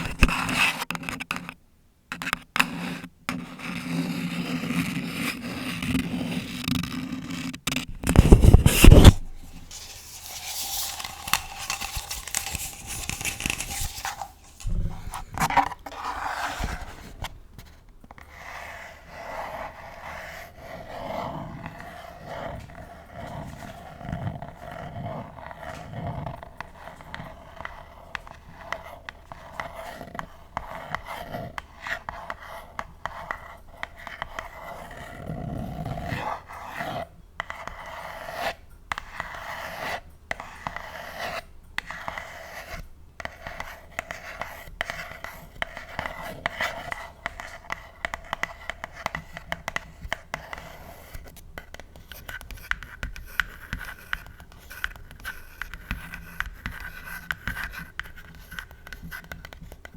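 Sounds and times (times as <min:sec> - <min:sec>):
nails scratching and tapping on box: 0:00.0 - 0:18.4, 0:21.4 - 0:59.9.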